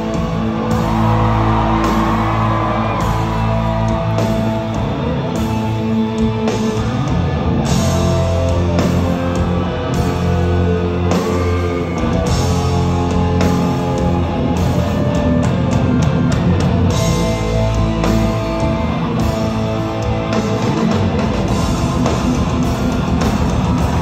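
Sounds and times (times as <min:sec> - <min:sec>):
drums: 0:00.0 - 0:24.0
electric guitars: 0:00.0 - 0:24.0.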